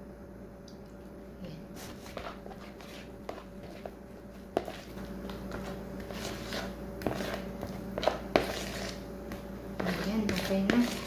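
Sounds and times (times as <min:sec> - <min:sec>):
spoon scraping plastic bowl: 0:01.8 - 0:11.0.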